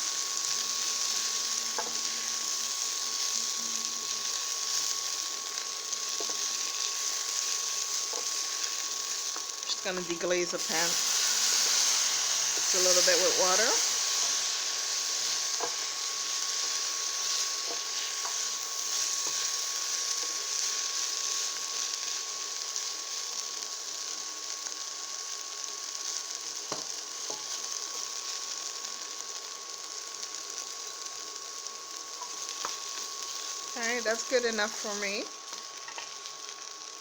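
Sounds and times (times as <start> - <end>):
peppers sizzling in a hot pan: 0.0 - 37.0.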